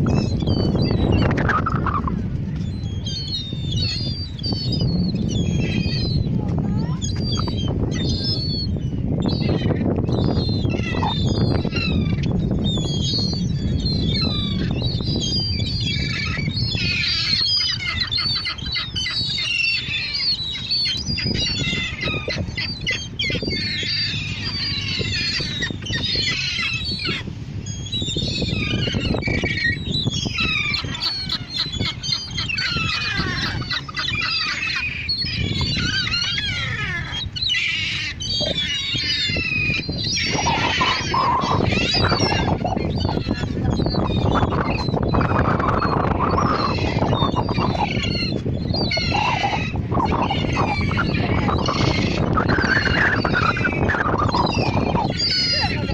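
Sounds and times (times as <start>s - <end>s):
seagulls calling: 0.0s - 55.9s.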